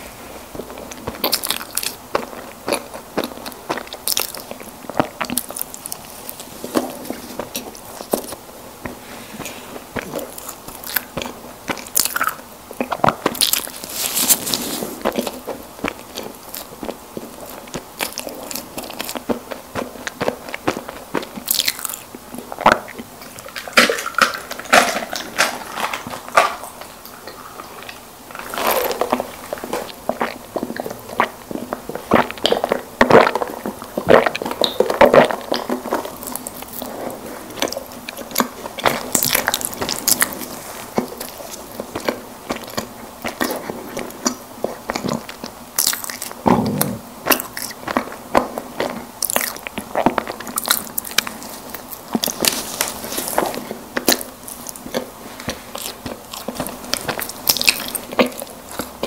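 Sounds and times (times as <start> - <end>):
biting and chewing snack cakes: 0.5 - 59.0.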